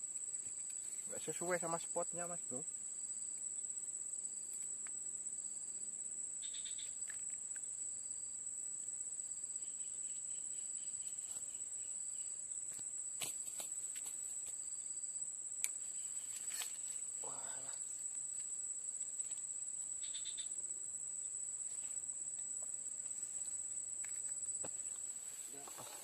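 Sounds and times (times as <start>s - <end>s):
cricket trilling: 0.0s - 26.0s.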